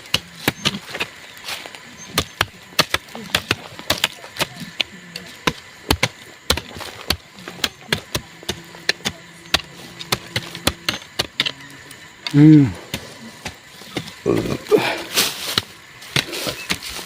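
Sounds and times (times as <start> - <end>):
hand tools chopping ground: 0.0 - 17.0.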